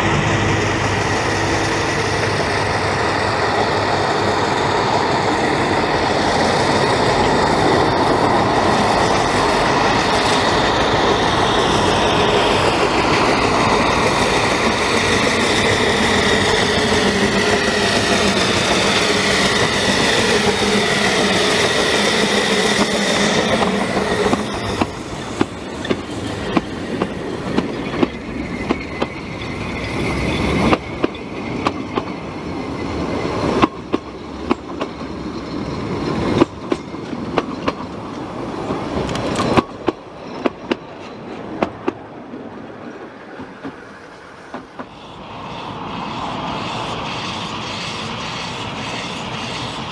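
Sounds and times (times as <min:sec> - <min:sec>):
high wheel squeals: 0:00.0 - 0:41.3, 0:43.5 - 0:49.9
train rumble: 0:00.0 - 0:49.9
wheels clicking over rail joints: 0:01.6 - 0:42.6.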